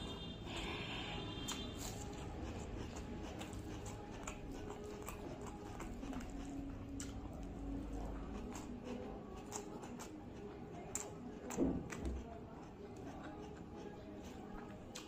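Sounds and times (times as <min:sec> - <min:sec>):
fingers squishing rice: 0:00.0 - 0:15.0
wet mouth clicks and chewing: 0:00.1 - 0:15.0.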